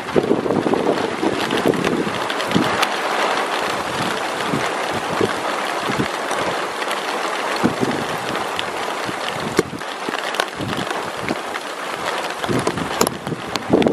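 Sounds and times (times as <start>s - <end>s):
heavy rain falling: 0.0s - 13.9s
raindrops tapping a surface: 0.0s - 13.9s.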